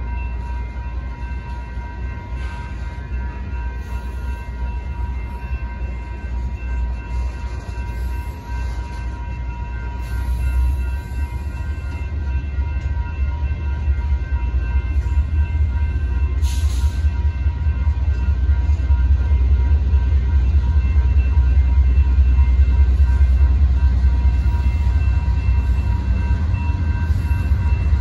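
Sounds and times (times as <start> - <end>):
crossing signal bells ringing: 0.0 - 28.0
freight car wheels rumbling on rail: 0.0 - 28.0.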